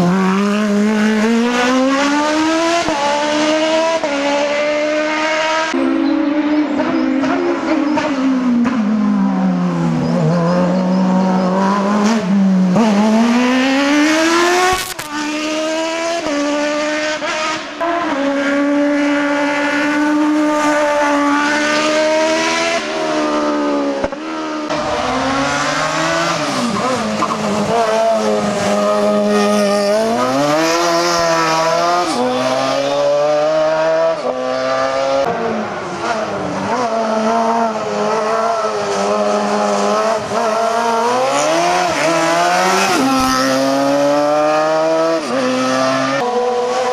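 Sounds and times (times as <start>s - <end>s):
racing car engine revving: 0.0s - 46.9s.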